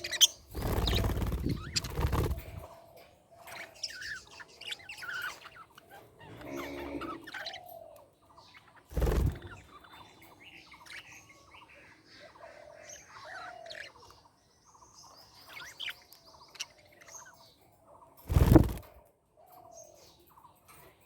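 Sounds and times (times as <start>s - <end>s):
budgerigars chirping and warbling: 0.0s - 18.8s.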